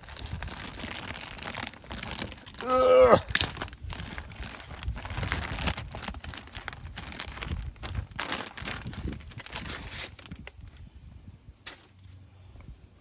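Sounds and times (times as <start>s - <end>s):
plastic packaging crinkling and tearing: 0.0s - 10.9s.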